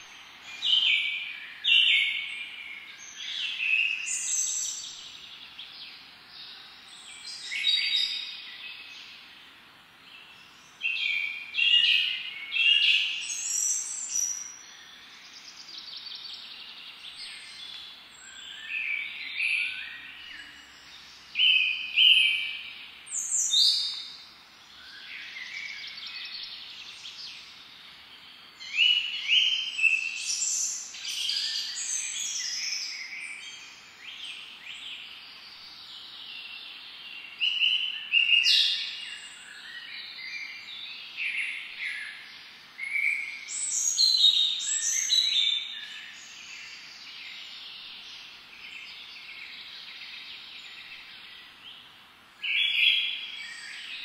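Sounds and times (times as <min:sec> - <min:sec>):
birds chirping and trilling: 0:00.0 - 0:54.0
faint steady hiss: 0:00.0 - 0:54.0.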